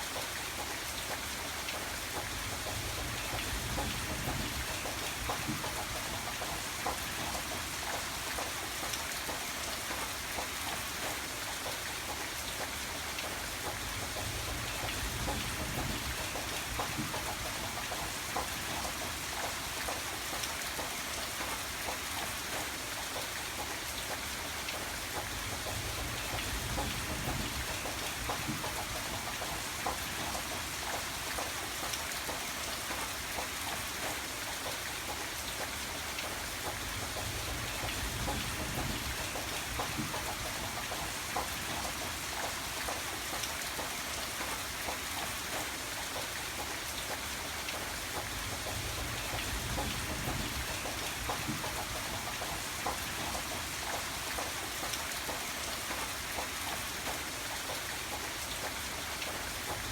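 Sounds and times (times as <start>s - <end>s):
rain pattering on surface: 0.0s - 59.9s.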